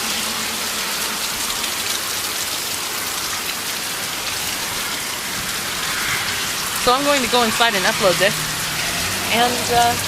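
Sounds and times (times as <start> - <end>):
heavy rain pattering: 0.0 - 10.0.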